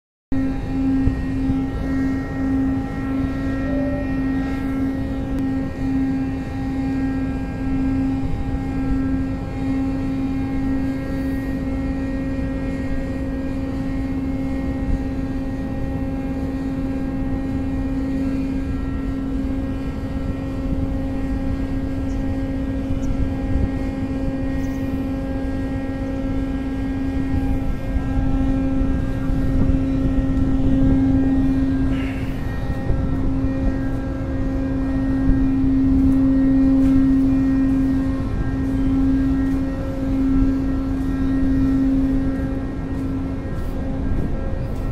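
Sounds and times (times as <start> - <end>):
deck crane machinery droning: 0.3 - 44.9.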